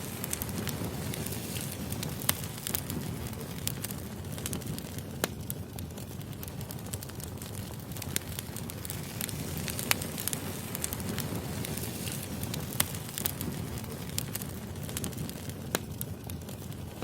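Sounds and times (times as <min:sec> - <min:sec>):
sharp fire pops: 0:00.0 - 0:17.0
wood fire crackling: 0:00.0 - 0:17.0.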